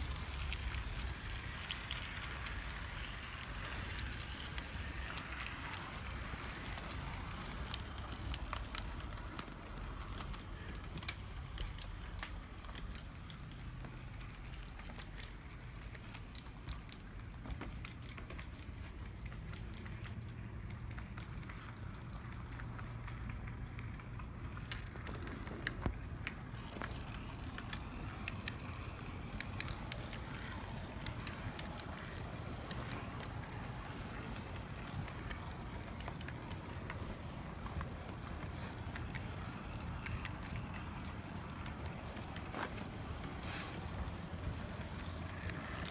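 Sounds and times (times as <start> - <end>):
model locomotive running gear rumble: 0.0 - 45.9
wheels clicking on rails: 0.0 - 45.9.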